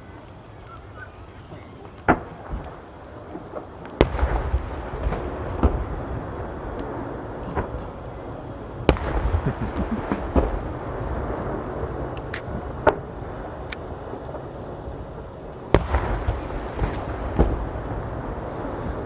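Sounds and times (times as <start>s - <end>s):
fireworks bursting: 0.0s - 19.0s
fireworks crackling: 0.0s - 19.0s
low background noise: 0.0s - 19.0s.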